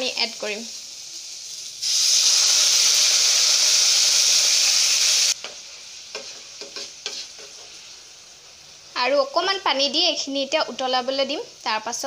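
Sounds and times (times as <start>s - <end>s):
water sizzling in hot pan: 0.0s - 12.0s.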